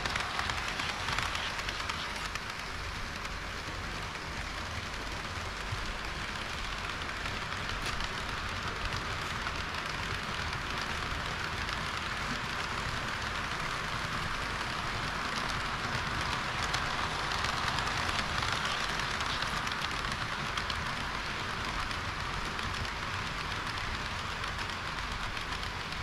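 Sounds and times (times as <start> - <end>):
model train wheels and motors: 0.0 - 26.0.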